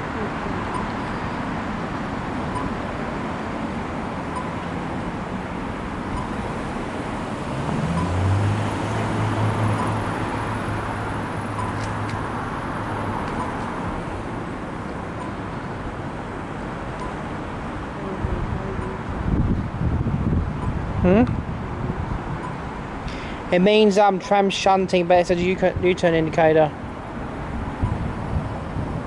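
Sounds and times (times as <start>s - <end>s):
city road traffic noise: 0.0s - 29.0s
vehicle engine hum: 0.0s - 29.0s.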